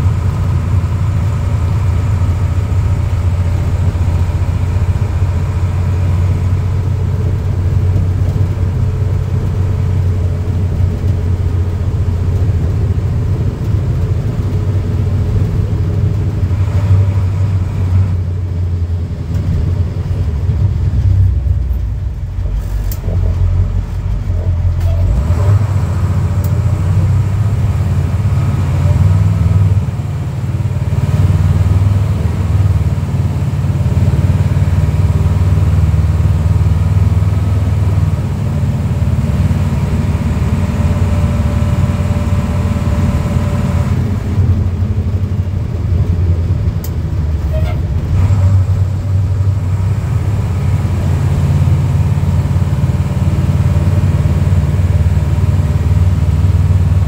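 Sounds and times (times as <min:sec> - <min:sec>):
diesel engine low drone: 0:00.0 - 0:57.0.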